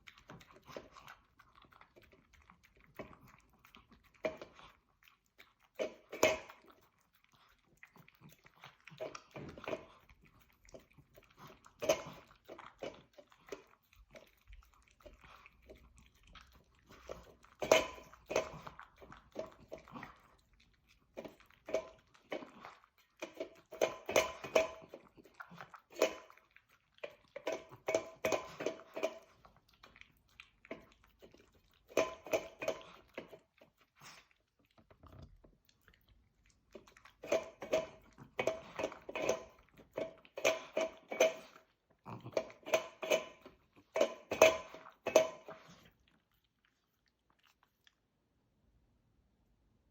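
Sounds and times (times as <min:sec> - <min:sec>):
dog chewing: 0:00.0 - 0:48.3.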